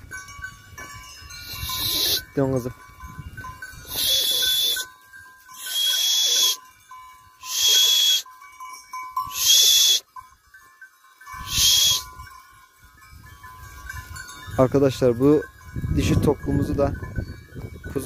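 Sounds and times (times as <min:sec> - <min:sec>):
faint steady ringing: 0:00.0 - 0:18.0.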